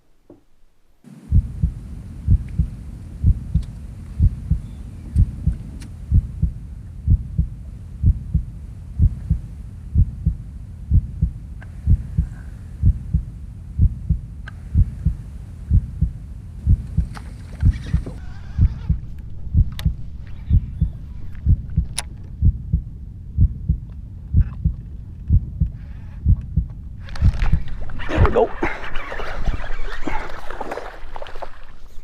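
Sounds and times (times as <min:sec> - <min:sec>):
thudding bass beat: 0:01.3 - 0:28.5.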